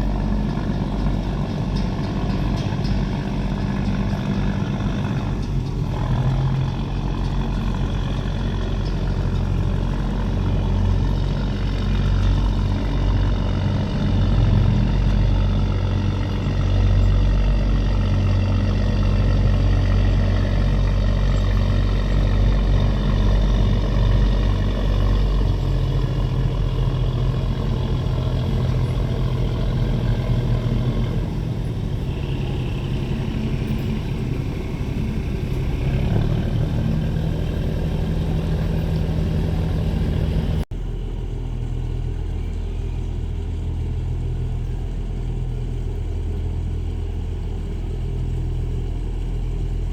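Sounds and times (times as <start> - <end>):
boat engine humming: 0.0 - 49.9.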